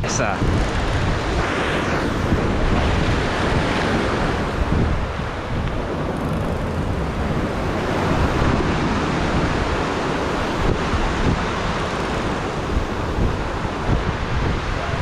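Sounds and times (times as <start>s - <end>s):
ocean surf breaking over rocks: 0.0s - 15.0s.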